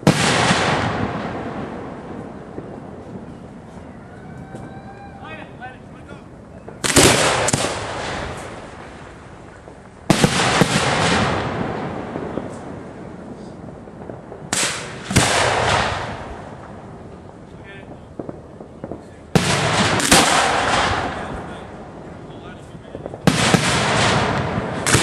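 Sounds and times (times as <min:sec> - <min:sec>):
crackling firework tail: 0:00.0 - 0:25.0
firework bangs: 0:00.0 - 0:25.0.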